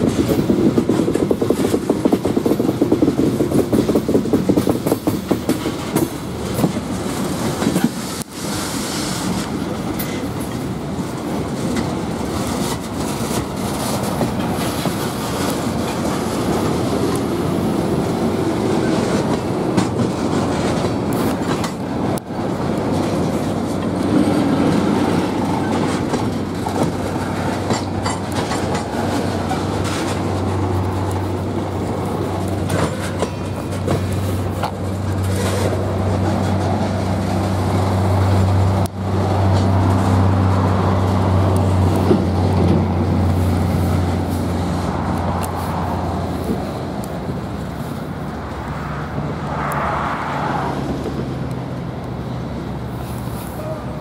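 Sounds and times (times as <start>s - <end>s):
freight train rolling on rails: 0.0s - 54.0s.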